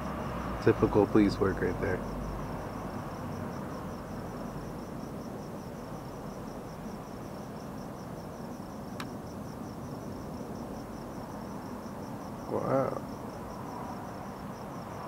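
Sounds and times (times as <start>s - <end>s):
crickets chirping: 0.0s - 15.0s
distant helicopter rumble: 0.0s - 15.0s.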